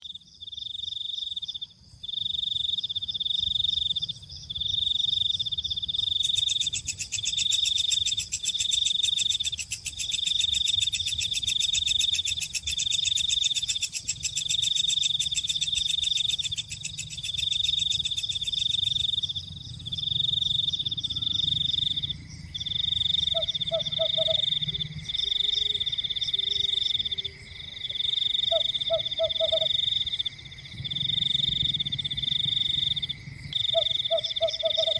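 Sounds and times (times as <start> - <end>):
high continuous insect buzz: 0.0 - 34.9.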